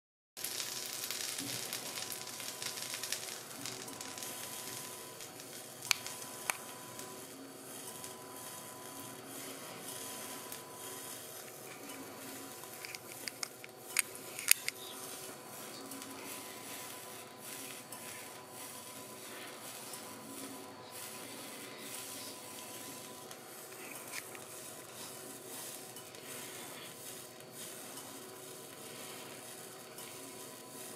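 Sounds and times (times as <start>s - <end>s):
butter sizzling in pan: 0.4s - 7.1s, 8.0s - 30.9s.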